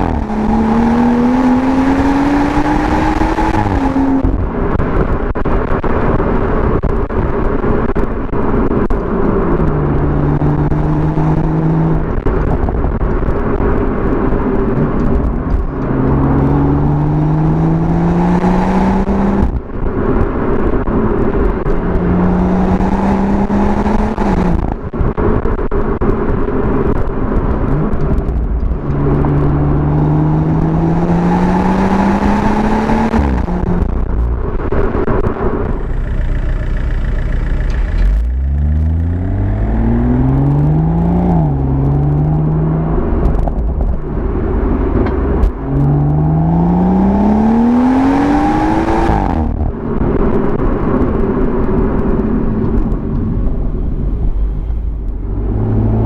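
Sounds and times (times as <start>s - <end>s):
car engine accelerating: 0.0s - 56.0s
steady rushing noise: 0.0s - 56.0s.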